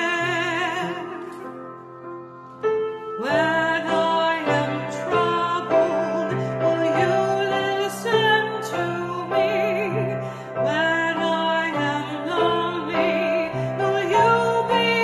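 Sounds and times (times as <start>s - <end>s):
person singing with vibrato: 0.0s - 1.6s, 3.2s - 15.0s.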